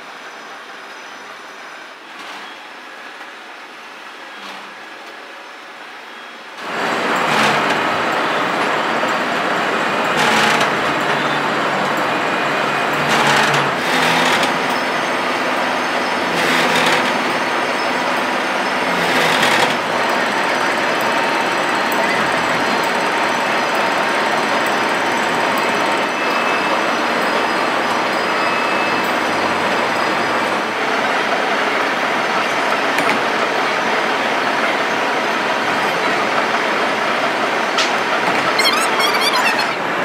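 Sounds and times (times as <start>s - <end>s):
steady machinery background noise: 0.0s - 40.0s
loud machine noise: 6.6s - 40.0s.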